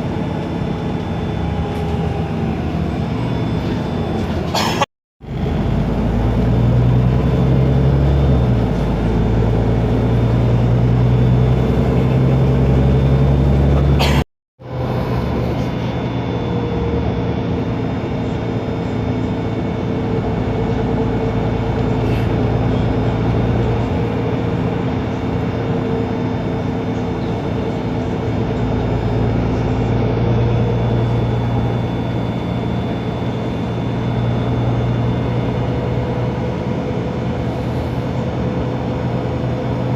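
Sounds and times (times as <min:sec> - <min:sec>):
bus diesel engine running: 0:00.0 - 0:39.9
gearbox whine: 0:00.0 - 0:39.9.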